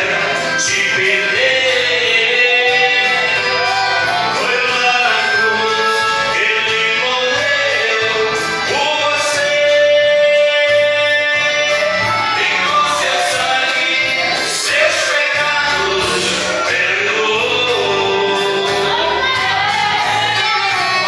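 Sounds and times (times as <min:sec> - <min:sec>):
instrumental accompaniment: 0:00.0 - 0:21.0
man singing gospel song: 0:00.0 - 0:21.0.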